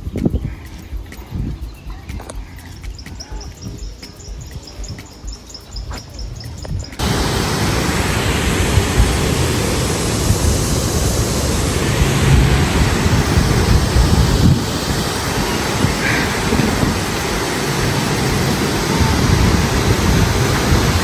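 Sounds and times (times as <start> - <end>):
loud steady rushing noise: 0.0 - 21.0.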